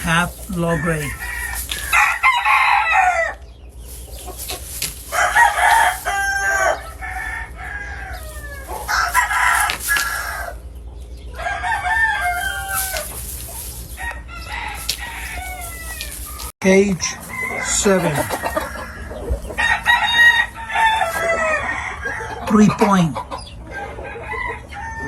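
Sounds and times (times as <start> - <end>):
roosters crowing: 0.0 - 25.0.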